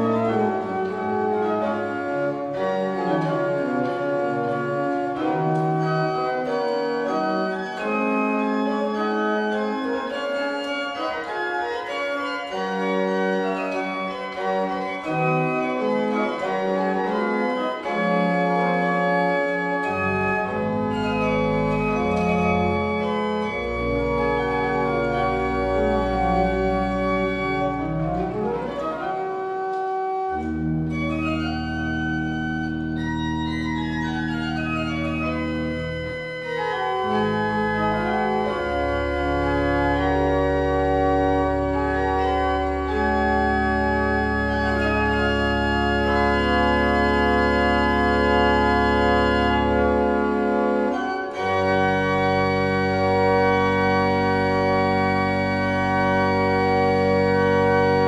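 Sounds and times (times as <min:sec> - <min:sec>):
pipe organ playing: 0:00.0 - 0:58.0.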